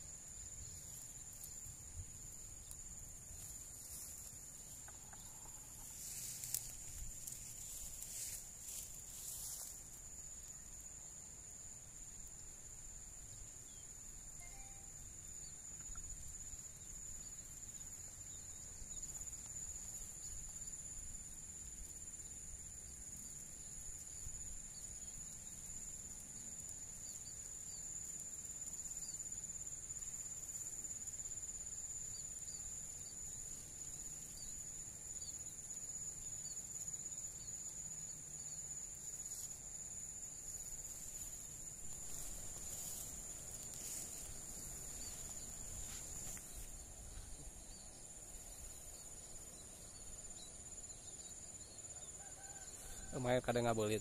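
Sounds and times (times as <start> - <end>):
insects shrilling: 0.0 - 10.7, 14.4 - 54.0.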